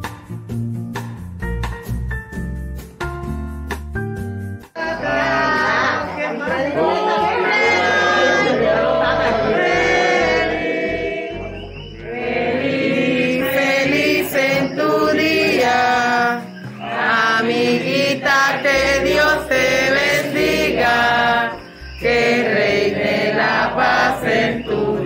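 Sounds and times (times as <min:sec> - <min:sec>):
people singing a celebration song: 0:04.8 - 0:25.0.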